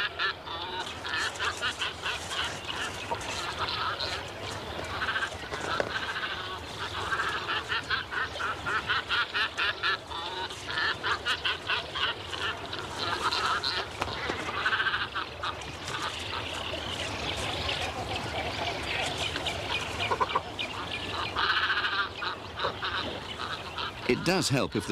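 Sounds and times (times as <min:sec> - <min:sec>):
waterbirds nasal calls: 0:00.0 - 0:24.9.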